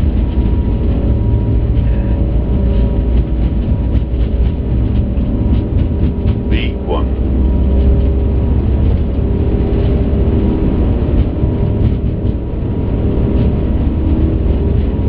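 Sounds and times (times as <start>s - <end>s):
jet engines deep rumble: 0.0s - 15.0s
steady hum: 0.0s - 15.0s.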